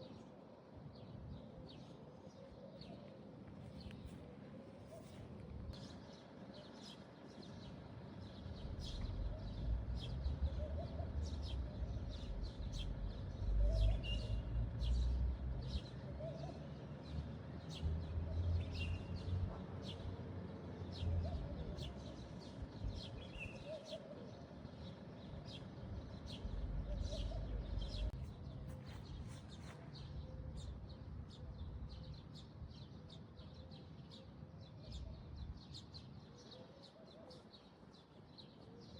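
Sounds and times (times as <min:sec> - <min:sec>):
small birds chirping: 0:04.8 - 0:38.9.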